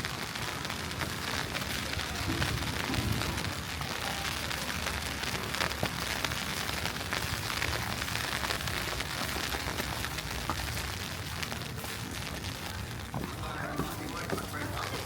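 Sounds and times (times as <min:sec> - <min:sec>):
wet snow falling: 0:00.0 - 0:15.0.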